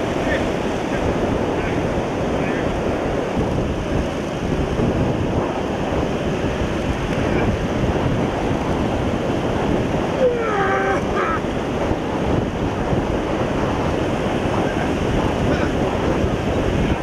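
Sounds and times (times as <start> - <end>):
surf breaking and washing: 0.0 - 17.0
wind buffeting microphone: 0.0 - 17.0.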